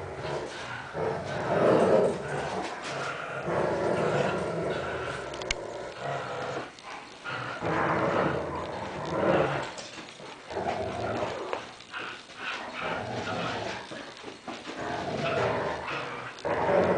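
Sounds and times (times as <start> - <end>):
dogs growling: 0.0 - 16.9.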